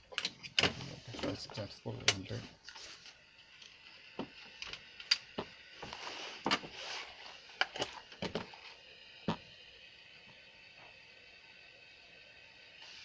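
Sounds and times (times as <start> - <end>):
hiss: 0.7 - 13.0.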